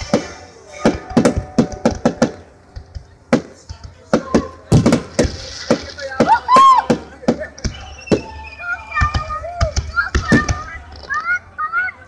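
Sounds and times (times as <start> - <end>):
fireworks bangs and pops: 0.0 - 10.8.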